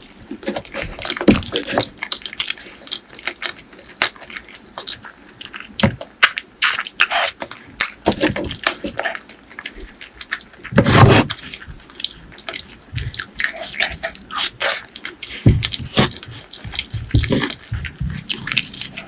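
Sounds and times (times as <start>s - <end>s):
wet chewing and lip smacks: 0.0s - 19.0s.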